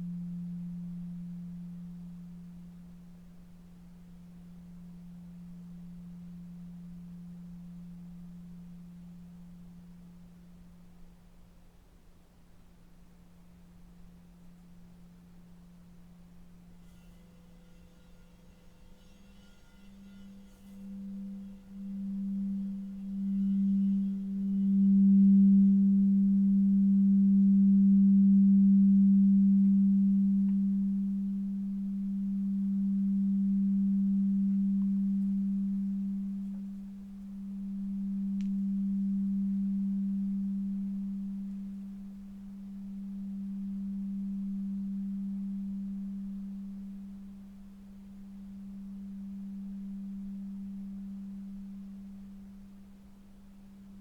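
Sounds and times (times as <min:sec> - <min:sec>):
singing bowl low tone: 0:00.0 - 0:54.0.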